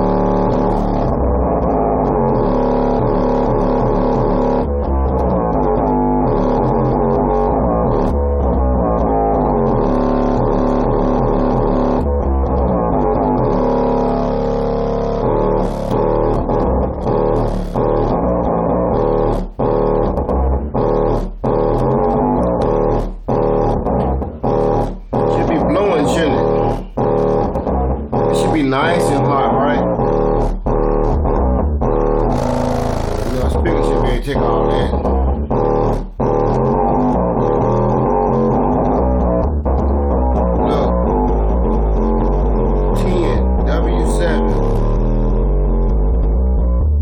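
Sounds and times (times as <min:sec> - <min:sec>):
bass-heavy song through subwoofer: 0:00.0 - 0:47.0.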